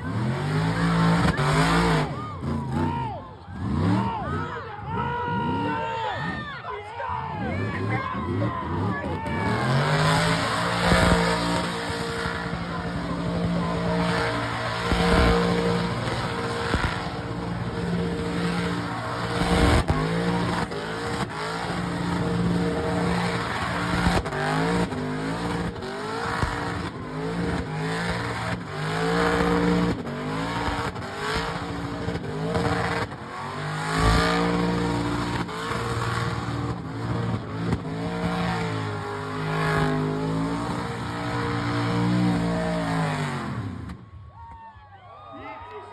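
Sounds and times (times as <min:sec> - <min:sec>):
car engine revving hard: 0:00.0 - 0:04.5, 0:07.4 - 0:44.0
tires squealing on pavement: 0:00.0 - 0:45.8.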